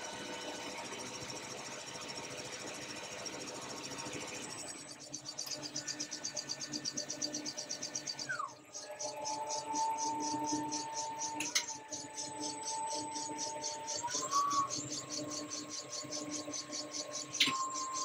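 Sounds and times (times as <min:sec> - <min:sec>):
rhythmic pulsing hiss: 0:00.0 - 0:18.0.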